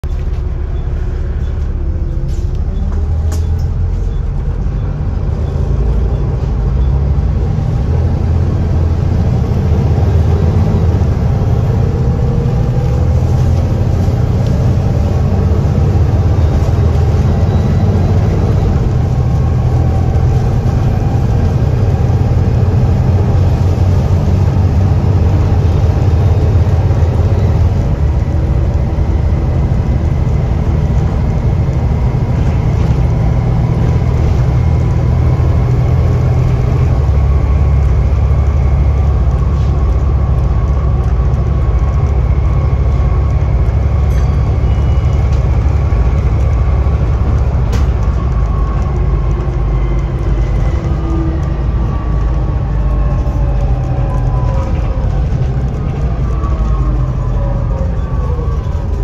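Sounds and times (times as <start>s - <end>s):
bus diesel engine pulling: 0.0s - 59.0s
rising whine: 7.0s - 59.0s.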